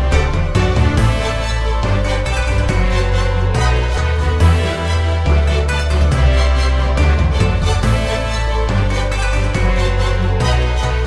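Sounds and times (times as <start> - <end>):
music with heavy bass line: 0.0 - 11.0
sustained pitched tones: 0.0 - 11.0.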